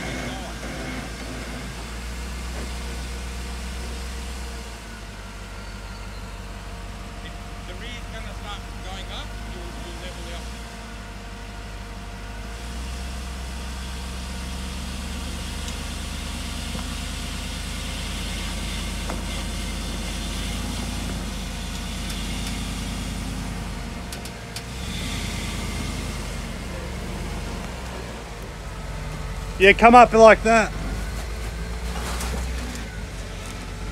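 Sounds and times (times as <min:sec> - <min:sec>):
truck engine at low revs: 0:00.0 - 0:33.9.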